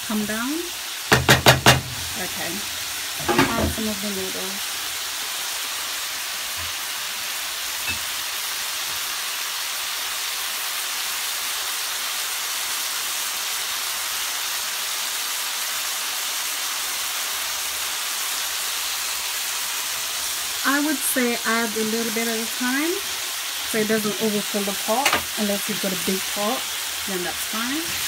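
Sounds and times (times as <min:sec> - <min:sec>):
vegetables sizzling in a frying pan: 0:00.0 - 0:28.0.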